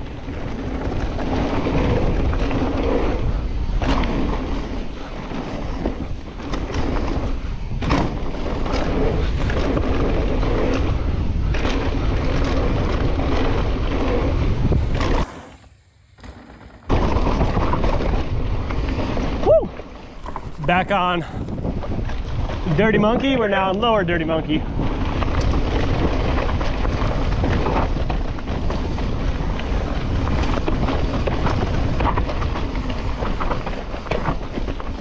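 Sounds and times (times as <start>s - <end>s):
wind buffeting microphone: 0.0s - 16.2s, 16.8s - 35.0s
bike rattling: 0.0s - 35.0s
tyres rolling on dirt: 0.0s - 35.0s.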